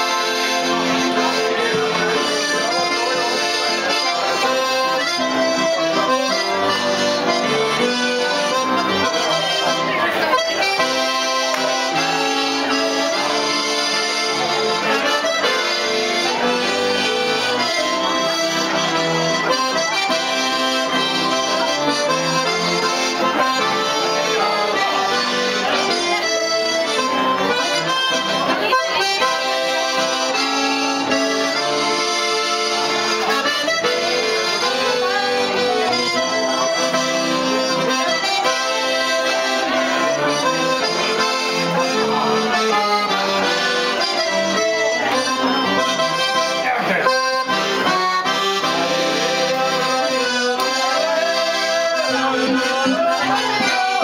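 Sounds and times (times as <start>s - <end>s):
accordion playing a tune: 0.0s - 54.0s.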